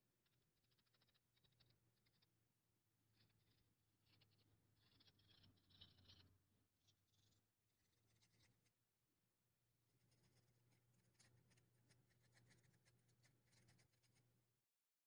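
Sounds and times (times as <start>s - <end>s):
faint scratching and clicking of hand work: 0.0s - 8.9s, 9.9s - 14.5s.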